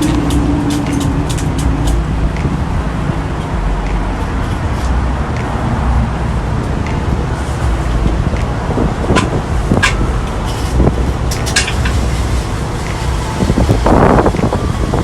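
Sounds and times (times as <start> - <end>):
road traffic rumble: 0.0 - 15.0
wind buffeting microphone: 0.0 - 15.0.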